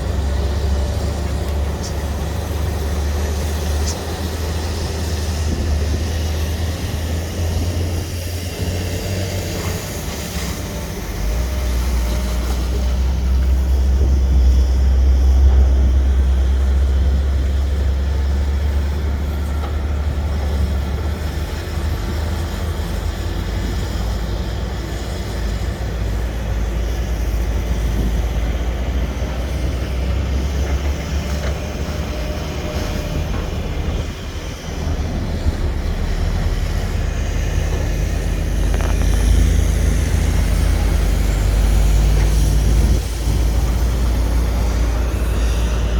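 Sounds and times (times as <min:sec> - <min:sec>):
excavator diesel engine drone: 0:00.0 - 0:45.9.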